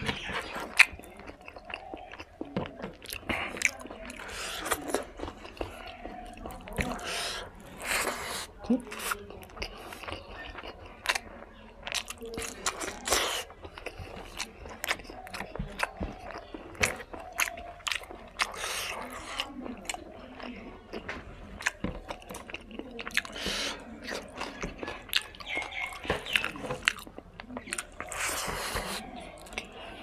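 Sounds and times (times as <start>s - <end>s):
man chewing food: 0.0s - 30.0s.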